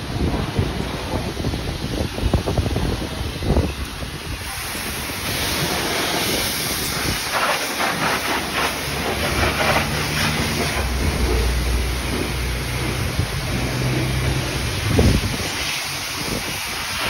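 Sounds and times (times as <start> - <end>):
pressure washer spraying water: 0.2 - 17.0.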